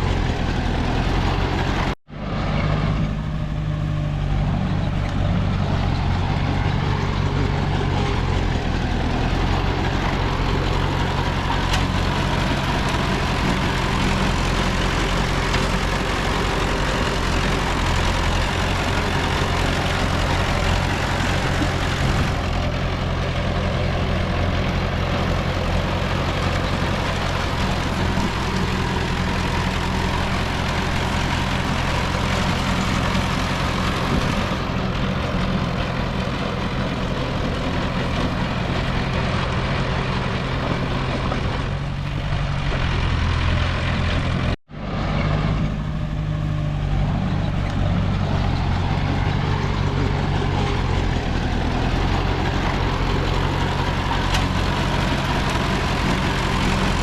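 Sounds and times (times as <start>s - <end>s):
diesel machinery engine hum: 0.0s - 57.0s.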